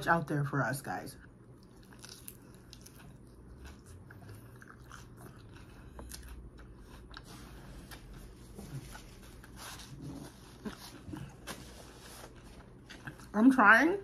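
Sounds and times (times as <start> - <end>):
person chewing salad: 1.2 - 13.4.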